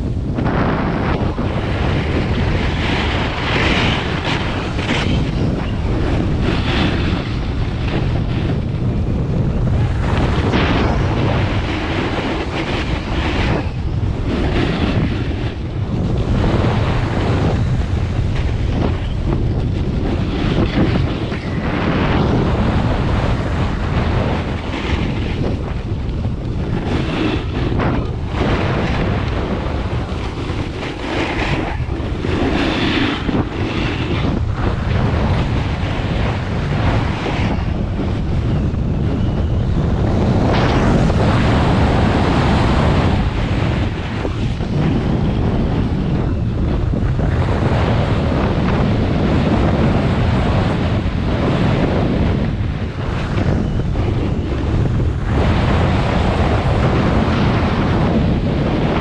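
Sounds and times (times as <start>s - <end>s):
wind buffeting microphone: 0.0s - 59.0s
snowboard scraping on snow: 0.3s - 38.5s, 39.1s - 59.0s.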